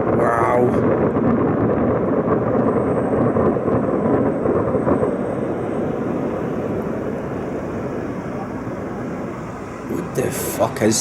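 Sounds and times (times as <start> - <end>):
distant booming fireworks: 0.0 - 11.0.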